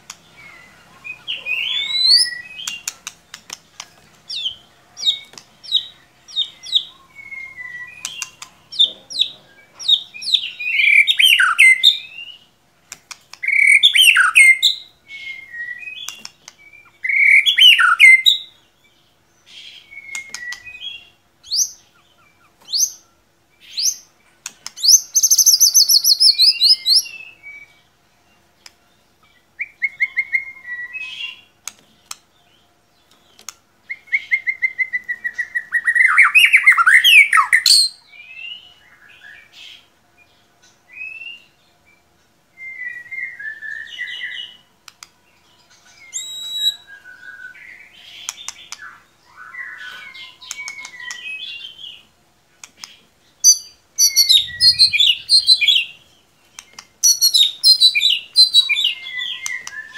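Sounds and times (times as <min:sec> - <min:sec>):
songbird singing whistles and trills: 0:00.1 - 0:03.6, 0:04.3 - 0:27.9, 0:29.2 - 0:52.1, 0:52.9 - 0:59.9.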